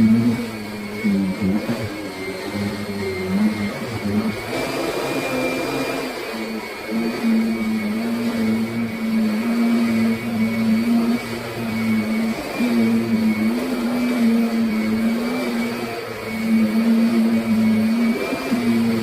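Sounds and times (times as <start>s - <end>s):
vacuum cleaner motor hum: 0.0s - 19.0s.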